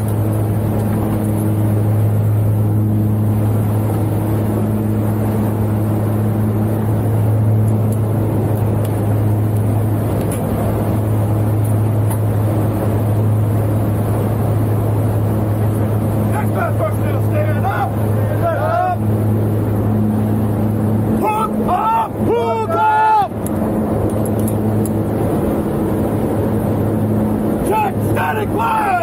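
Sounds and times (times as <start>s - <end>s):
propeller plane engines droning: 0.0s - 29.0s.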